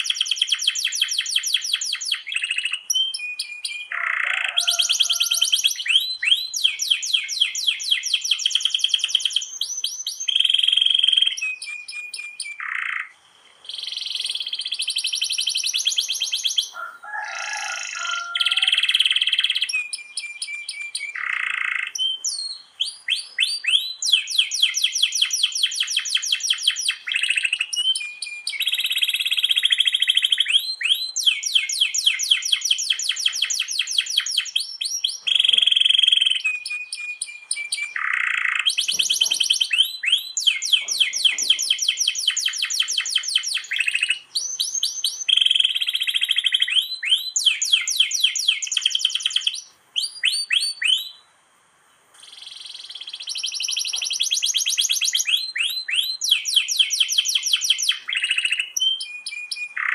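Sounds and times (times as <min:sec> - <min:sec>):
canary singing trills: 0:00.0 - 0:51.3, 0:52.0 - 0:59.9.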